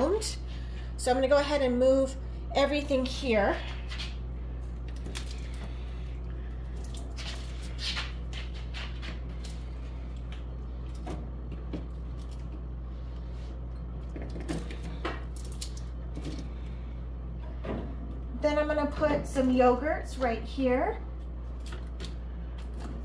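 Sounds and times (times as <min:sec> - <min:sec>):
refrigerator hum: 0:00.0 - 0:23.0.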